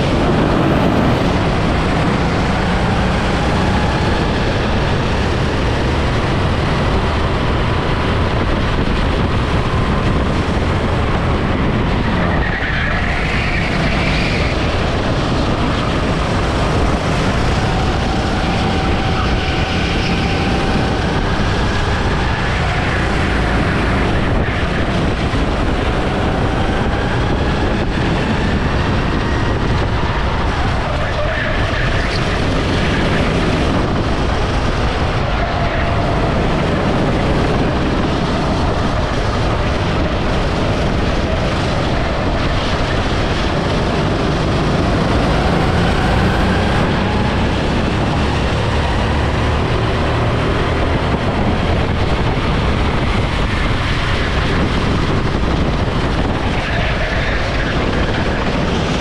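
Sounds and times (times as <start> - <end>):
go-kart engine: 0.0 - 59.0
wind noise: 0.0 - 59.0.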